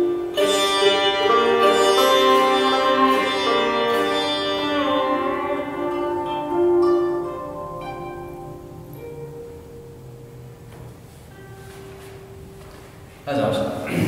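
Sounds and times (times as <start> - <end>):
sitar playing ringing notes: 0.0 - 13.2.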